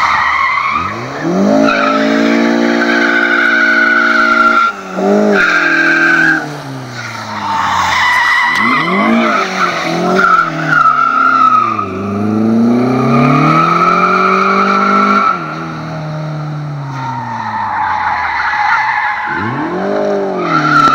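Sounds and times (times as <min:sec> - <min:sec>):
tyres squealing on tarmac: 0:00.0 - 0:12.2, 0:12.8 - 0:15.6, 0:16.8 - 0:20.9
car engine revving hard: 0:00.7 - 0:16.9, 0:19.3 - 0:20.9.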